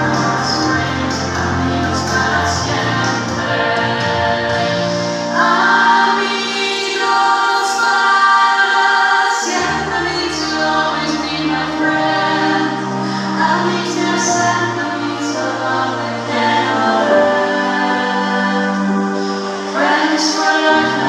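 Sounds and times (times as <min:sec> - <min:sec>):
girls' chorus singing: 0:00.0 - 0:21.0.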